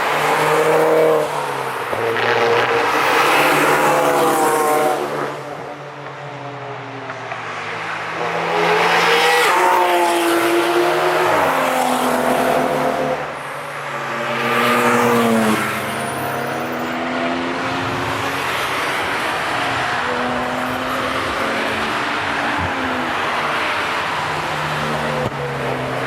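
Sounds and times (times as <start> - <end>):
race cars passing at speed: 0.0 - 26.0.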